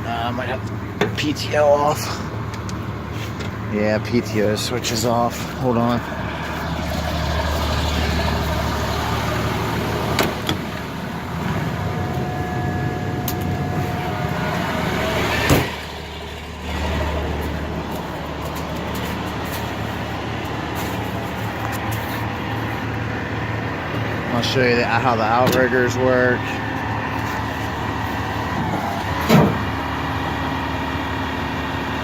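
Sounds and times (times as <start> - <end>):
truck engine idling: 0.0 - 32.0.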